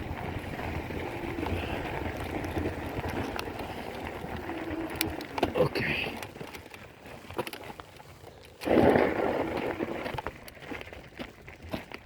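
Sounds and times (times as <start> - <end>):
bike clicks and rattles: 0.0 - 12.0.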